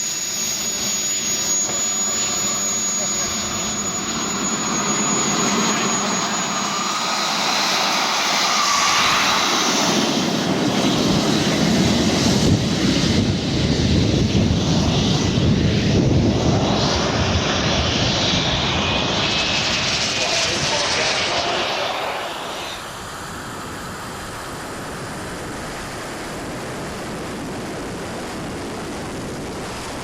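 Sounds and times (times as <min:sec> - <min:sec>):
model jet turbines roaring: 0:00.0 - 0:30.0.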